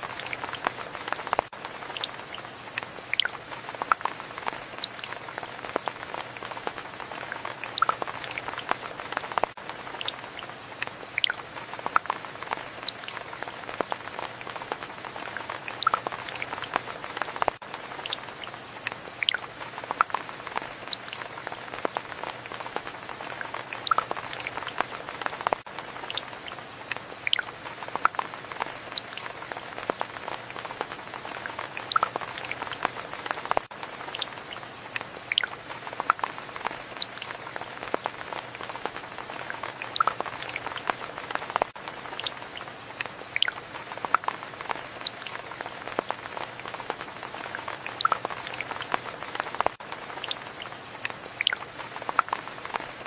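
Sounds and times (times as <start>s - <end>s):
raindrops pattering and dripping: 0.0s - 53.0s
steady rain falling: 0.0s - 53.0s.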